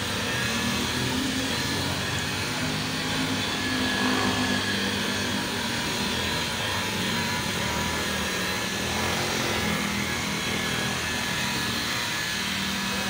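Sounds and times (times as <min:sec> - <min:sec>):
electric polisher running: 0:00.0 - 0:13.0.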